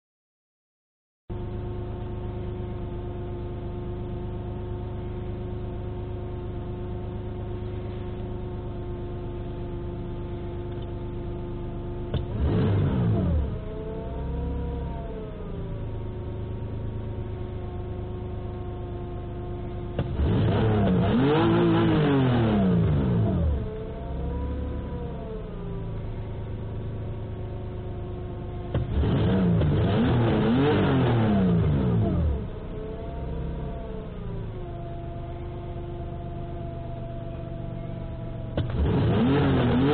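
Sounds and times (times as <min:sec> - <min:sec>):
car engine idling and revving: 0:01.3 - 0:39.9.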